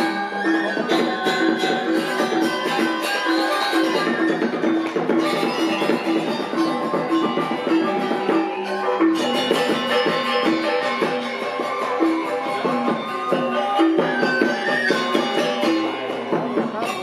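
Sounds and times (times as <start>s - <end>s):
bamboo flute: 0.0s - 17.0s
hand drums: 0.0s - 17.0s
metallophones ringing: 0.0s - 17.0s.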